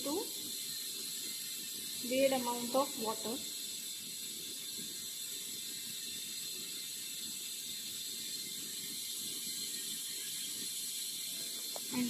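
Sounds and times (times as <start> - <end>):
bunsen burner hissing: 0.0 - 12.0.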